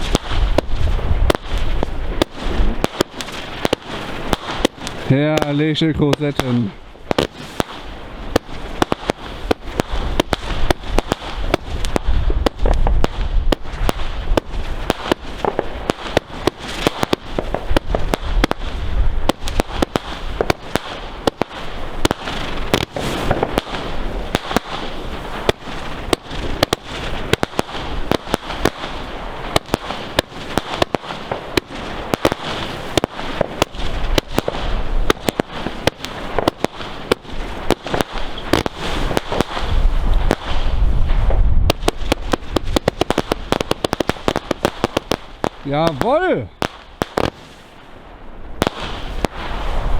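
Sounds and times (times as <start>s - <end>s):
deep firework booms: 0.0s - 49.9s
fireworks bangs and crackles: 0.0s - 49.9s.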